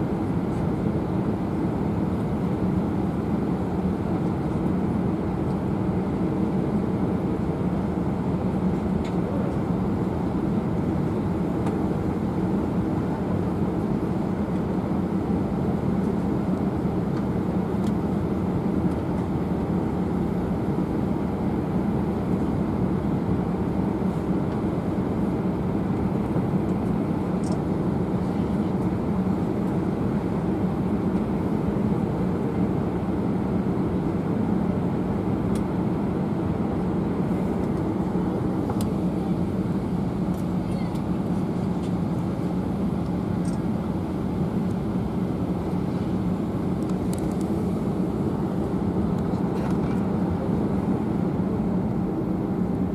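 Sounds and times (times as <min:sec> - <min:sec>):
airliner engine drone and airflow: 0:00.0 - 0:52.9
steady low hum: 0:00.0 - 0:52.9.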